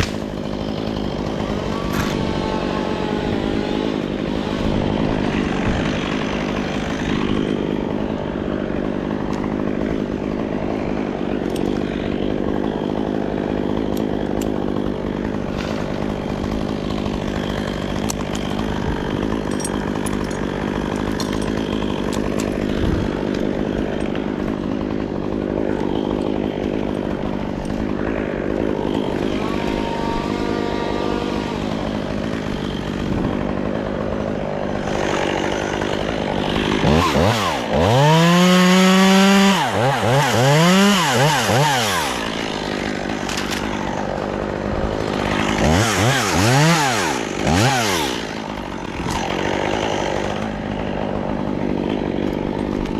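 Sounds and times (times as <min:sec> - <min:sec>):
chainsaw running: 0:00.0 - 0:52.9.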